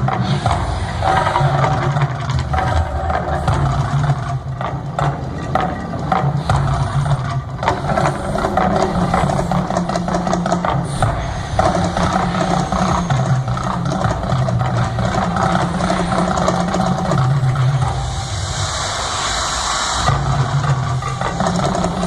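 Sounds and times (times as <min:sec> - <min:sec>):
knocks and clatter: 0:00.0 - 0:18.3, 0:20.1 - 0:22.0
deep rumble: 0:00.0 - 0:22.0.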